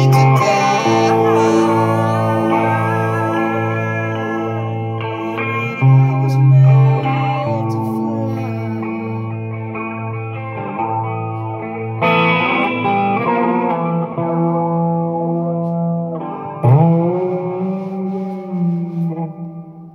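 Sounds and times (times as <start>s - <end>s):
electric guitar chords ringing: 0.0s - 19.9s.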